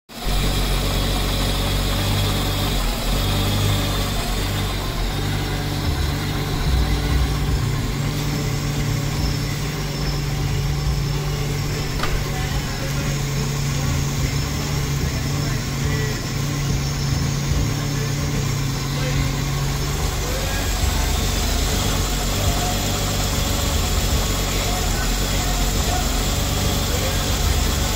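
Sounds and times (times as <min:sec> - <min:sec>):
car engine running: 0:00.1 - 0:27.9.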